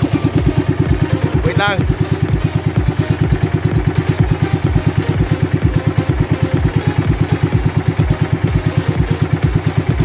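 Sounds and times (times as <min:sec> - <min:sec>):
boat engine puttering: 0:00.0 - 0:10.0.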